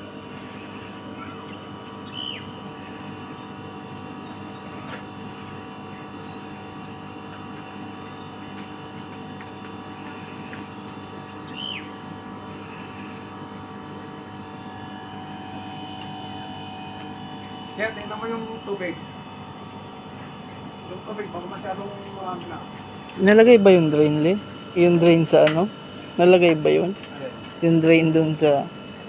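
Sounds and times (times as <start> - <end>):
air conditioner humming: 0.0 - 29.0.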